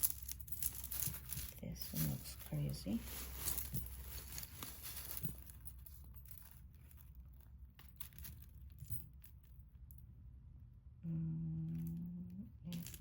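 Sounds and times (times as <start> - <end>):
jewelry rustling and clicking: 0.0 - 10.2, 11.7 - 13.0
steady low hum: 0.0 - 13.0.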